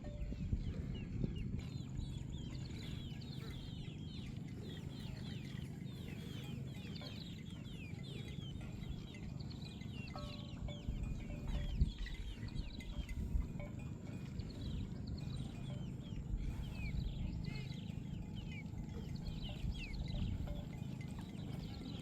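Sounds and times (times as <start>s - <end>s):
many birds chirping: 0.0s - 22.0s
steady low rumble: 0.0s - 22.0s.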